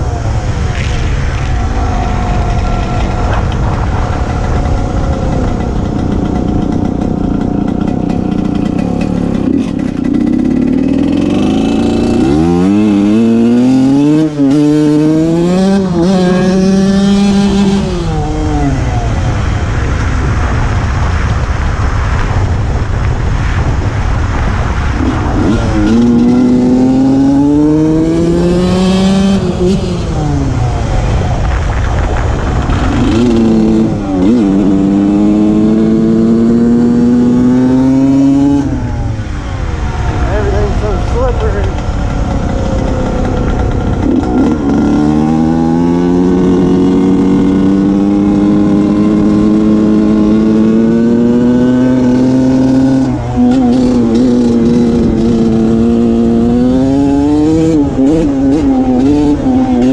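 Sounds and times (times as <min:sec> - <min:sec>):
two-stroke motorcycle engine revving: 0:00.0 - 0:59.9
wind rumble on microphone: 0:00.0 - 0:59.9.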